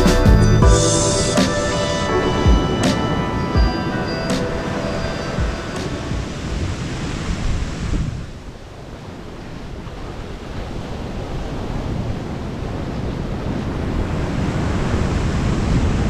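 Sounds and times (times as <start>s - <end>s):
wind buffeting microphone: 0.4s - 16.0s
surf washing up beach: 0.8s - 16.0s.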